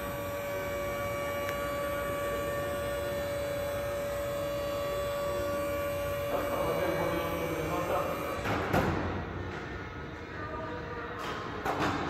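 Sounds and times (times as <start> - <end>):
steady held hum: 0.0 - 12.0
workshop background noise: 0.0 - 12.0.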